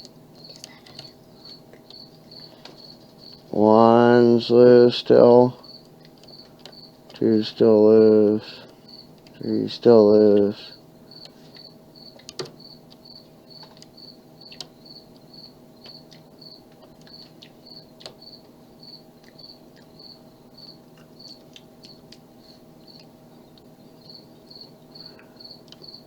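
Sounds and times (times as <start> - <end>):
cricket chirping: 0.0 - 4.5, 5.2 - 9.7, 10.7 - 26.0
faint hum: 0.0 - 26.0.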